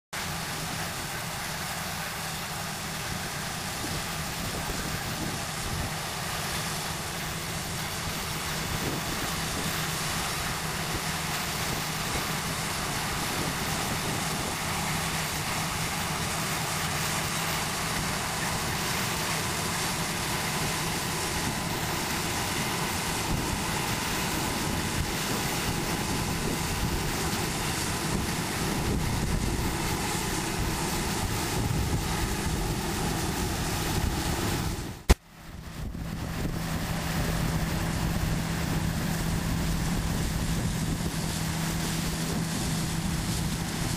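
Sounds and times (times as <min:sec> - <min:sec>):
combine harvester running: 0:00.1 - 0:43.9.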